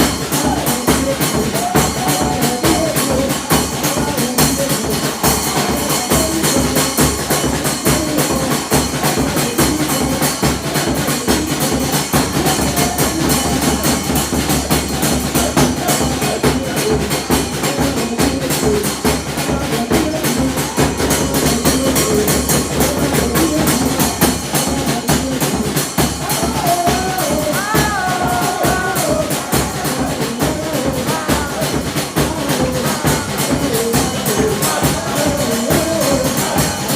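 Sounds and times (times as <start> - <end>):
drum kit beat: 0.0 - 36.9.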